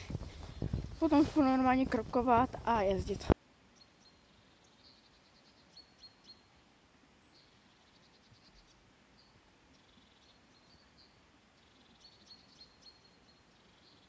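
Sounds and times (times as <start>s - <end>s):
distant small birds chirping: 0.0s - 14.0s.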